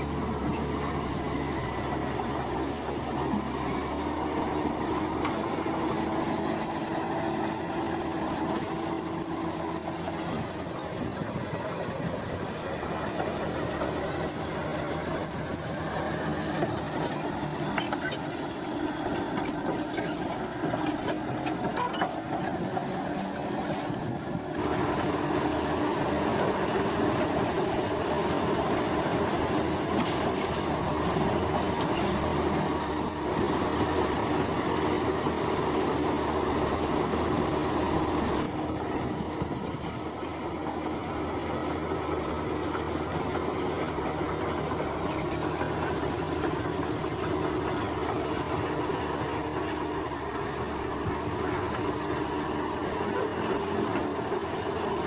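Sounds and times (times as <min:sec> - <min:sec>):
bulldozer diesel engine: 0:00.0 - 0:55.0.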